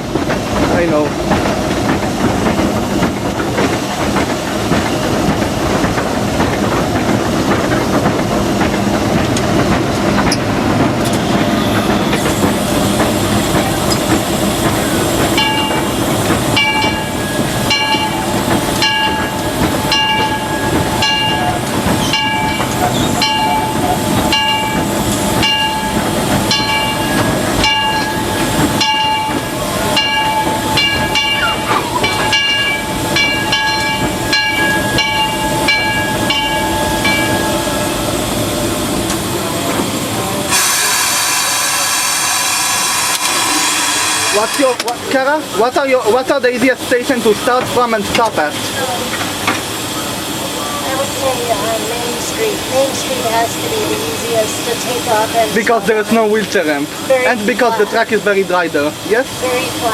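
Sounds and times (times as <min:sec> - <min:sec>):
wheels clickety-clack over rail joints: 0:00.0 - 0:40.8, 0:44.3 - 0:59.9
steam locomotive running noise: 0:00.0 - 0:59.9.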